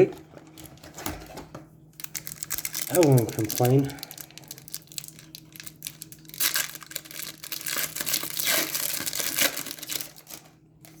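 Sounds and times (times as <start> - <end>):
wrapper crinkling and tearing: 2.0 - 11.0.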